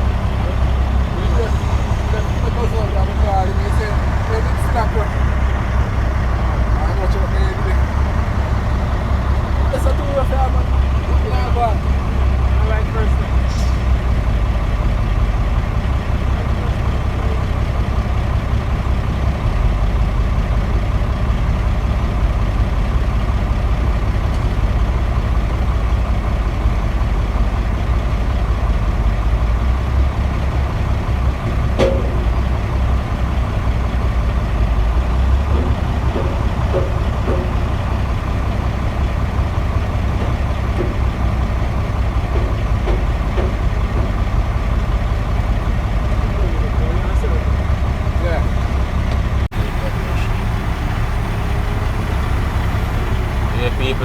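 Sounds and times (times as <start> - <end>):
diesel engine rumbling: 0.0 - 54.0
engine whine: 0.0 - 54.0.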